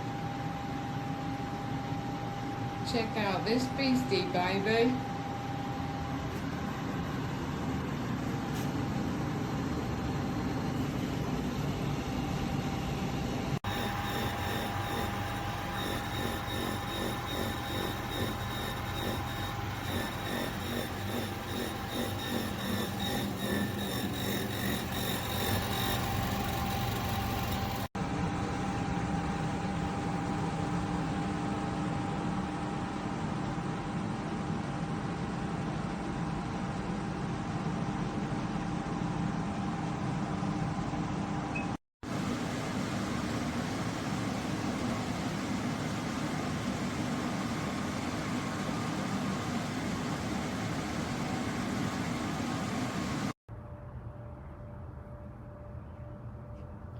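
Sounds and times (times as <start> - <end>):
air conditioner running: 0.0 - 53.4.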